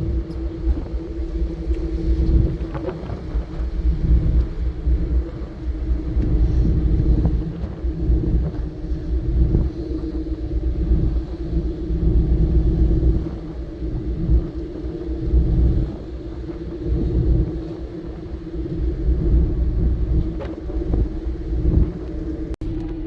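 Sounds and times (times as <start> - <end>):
ferry engine droning hum: 0.0 - 23.0
heavy low rumble: 0.0 - 23.0.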